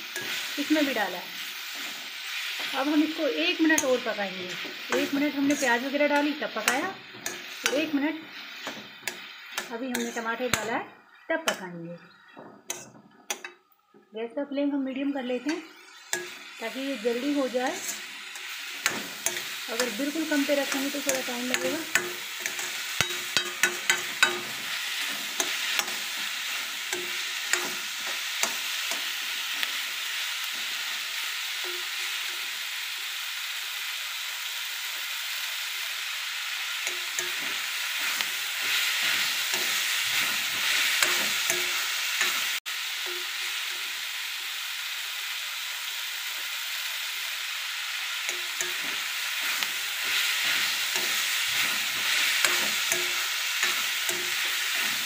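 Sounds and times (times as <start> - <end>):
steel spoon scraping a pan: 0.0 - 13.6, 15.3 - 32.5, 36.6 - 44.0, 48.0 - 55.0
vegetables sizzling in hot oil: 0.0 - 55.0.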